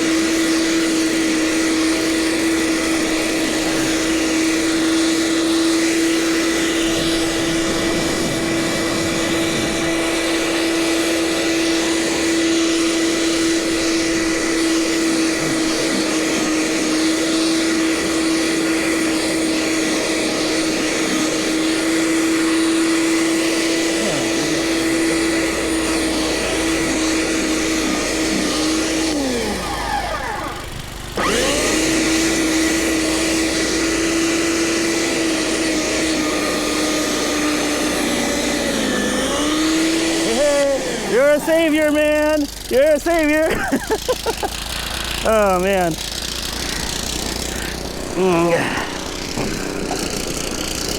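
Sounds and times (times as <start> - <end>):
snow blower engine running: 0.0 - 50.9.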